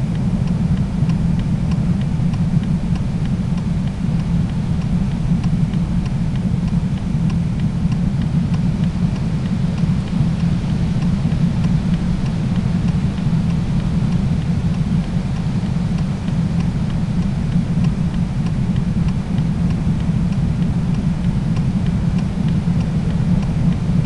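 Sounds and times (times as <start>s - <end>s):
faint regular ticking: 0.0s - 24.0s.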